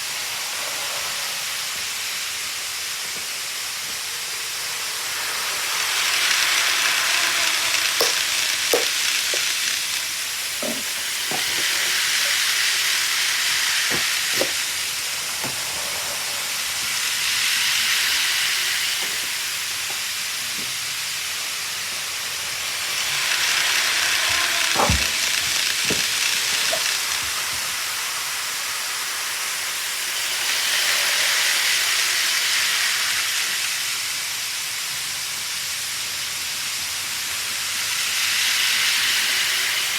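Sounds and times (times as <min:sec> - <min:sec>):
model train running: 0:00.0 - 0:39.9.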